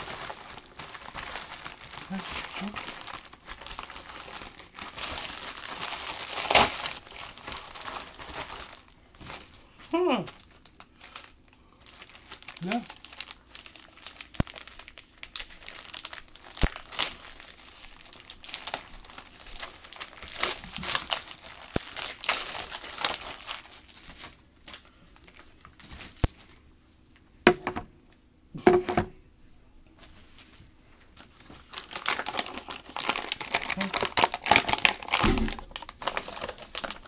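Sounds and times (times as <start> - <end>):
plastic bag crinkling and tearing: 0.0 - 9.6, 10.2 - 26.6, 31.1 - 37.0.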